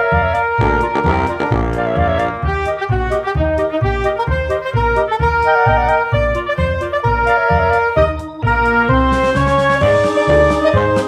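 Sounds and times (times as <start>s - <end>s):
upbeat music with bass beat: 0.0s - 11.0s.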